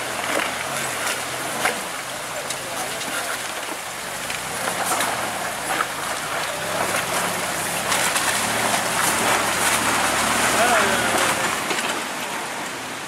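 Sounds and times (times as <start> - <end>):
truck engine running: 0.0 - 12.0
tyres grinding over loose rock: 0.0 - 12.3.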